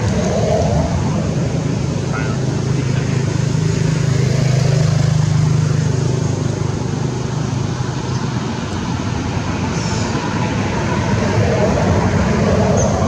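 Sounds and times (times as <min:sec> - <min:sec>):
motor engine humming: 0:00.0 - 0:13.0
outdoor background noise: 0:00.0 - 0:13.0.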